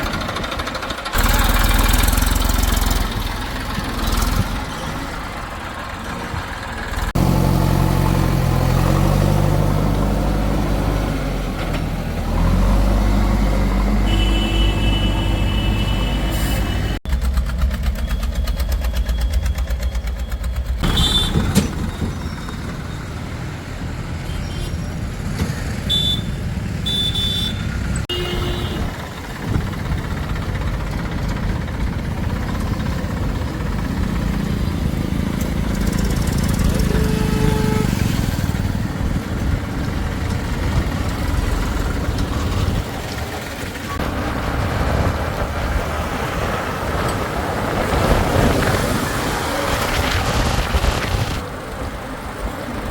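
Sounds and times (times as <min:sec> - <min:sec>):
heavy machinery diesel engines: 0:00.0 - 0:52.9.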